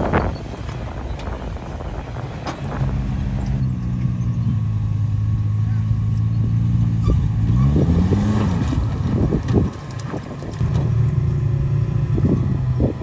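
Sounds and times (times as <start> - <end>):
jeep engine running: 0.0 - 13.0.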